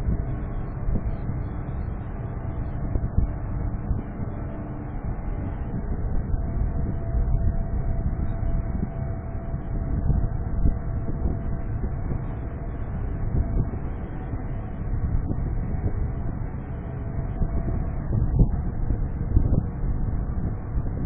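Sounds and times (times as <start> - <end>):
faint steady whine: 0.0 - 21.0
low machinery rumble: 0.0 - 21.0.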